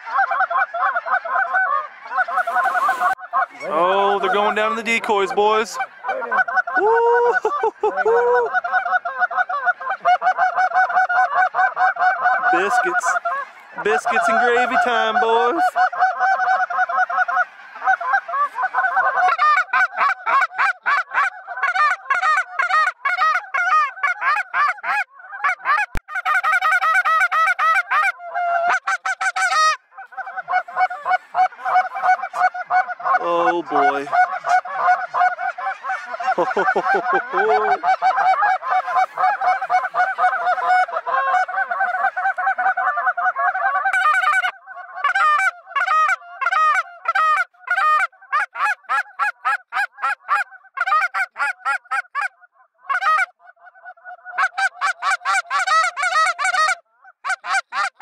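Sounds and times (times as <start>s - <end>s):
flock of geese honking: 0.0s - 58.0s.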